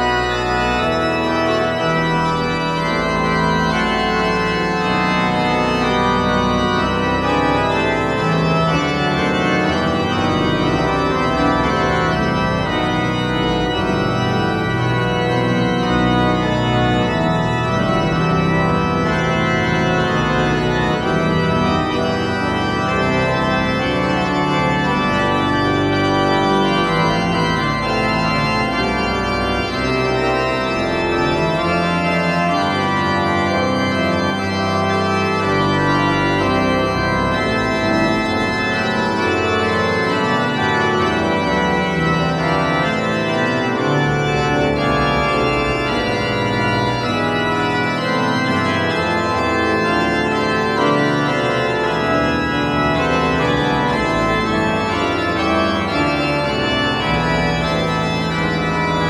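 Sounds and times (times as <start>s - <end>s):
organ-like keyboard chords: 0.0s - 59.0s.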